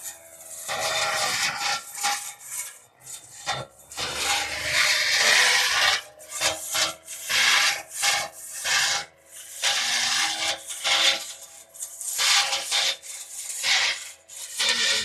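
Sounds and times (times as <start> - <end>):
faint tractor engine hum: 0.0 - 12.2.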